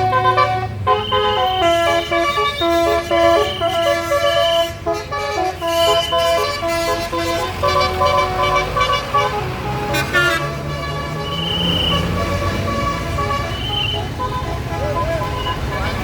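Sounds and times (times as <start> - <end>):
bus engine running: 0.0 - 16.0
multi-tone air horn melody: 0.0 - 16.0.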